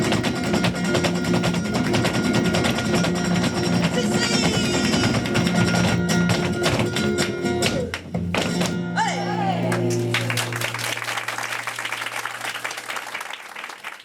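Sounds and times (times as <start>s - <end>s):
flamenco guitar playing: 0.0s - 12.4s.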